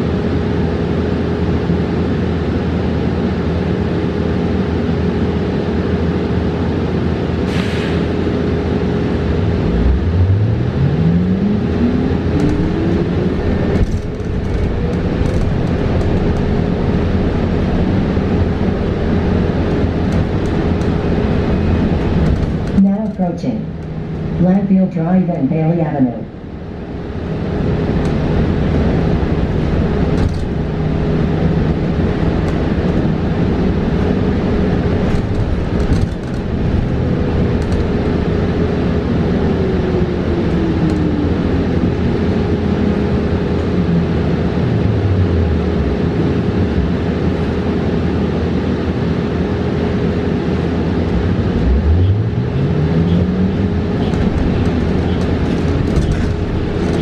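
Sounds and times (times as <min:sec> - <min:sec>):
electric bus motor whine: 0:00.0 - 0:25.0, 0:26.2 - 0:57.0
constant hum: 0:00.0 - 0:57.0
road and cabin noise: 0:00.0 - 0:57.0.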